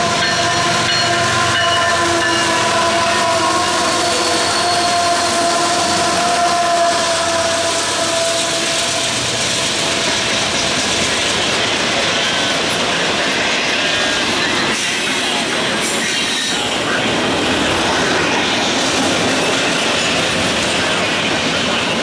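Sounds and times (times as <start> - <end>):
train wheels rushing on rail: 0.0 - 22.0.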